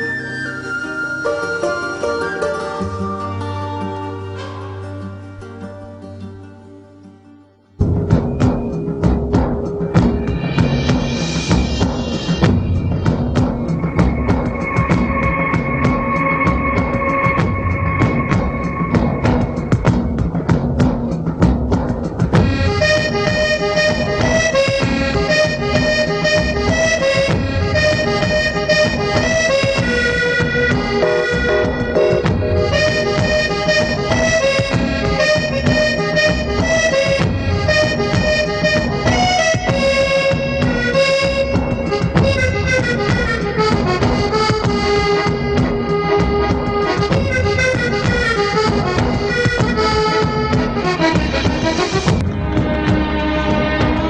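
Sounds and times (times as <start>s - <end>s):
organ-like melody: 0.0s - 5.2s, 7.8s - 21.4s, 22.3s - 54.0s
low drum beat: 7.8s - 54.0s.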